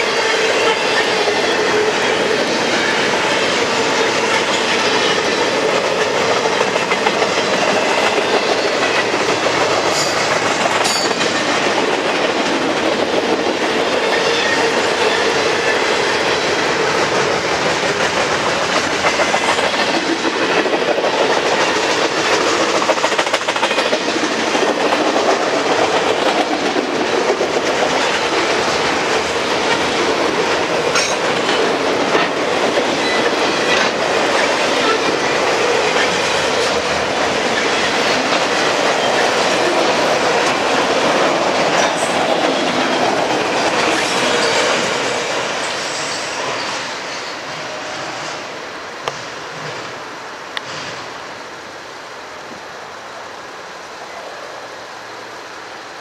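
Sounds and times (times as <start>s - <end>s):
freight train wheels clattering: 0.0s - 47.8s.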